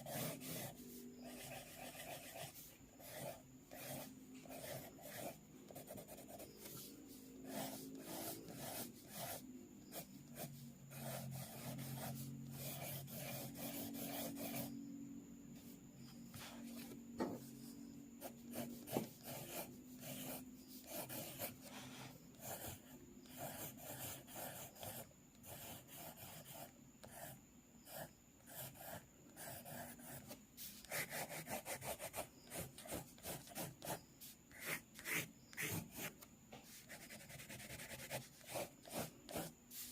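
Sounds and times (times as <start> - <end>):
pencil sketching on paper: 0.0 - 14.7, 18.2 - 36.1, 36.7 - 39.9.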